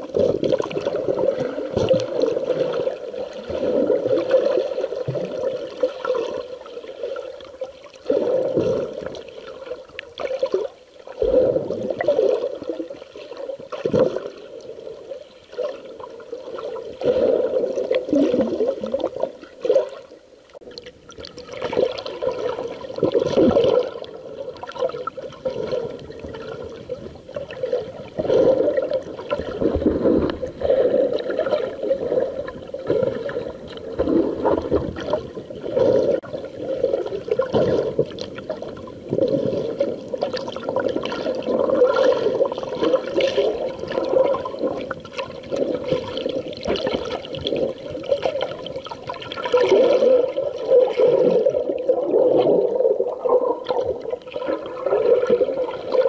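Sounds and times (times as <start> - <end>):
water sloshing and gurgling underwater: 0.0 - 56.0.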